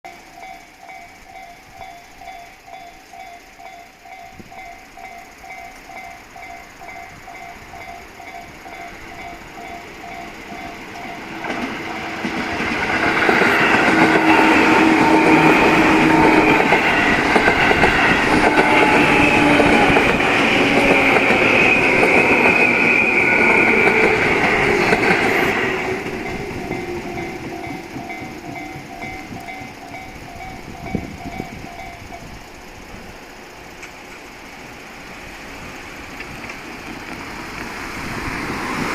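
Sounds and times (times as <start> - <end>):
level crossing warning bell: 0.1 - 32.6
electric train passing: 0.1 - 38.9.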